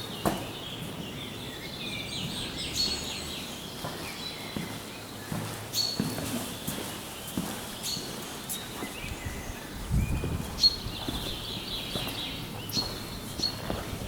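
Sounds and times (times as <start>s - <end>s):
birds singing: 0.0s - 14.0s.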